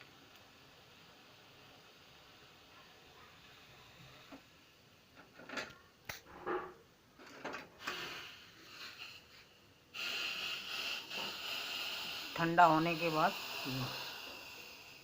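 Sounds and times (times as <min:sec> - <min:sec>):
steady hiss: 0:00.0 - 0:06.2, 0:07.7 - 0:15.0.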